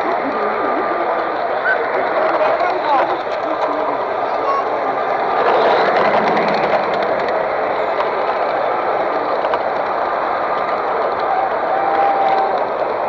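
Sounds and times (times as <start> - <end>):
din of busy hall: 0.0 - 13.0.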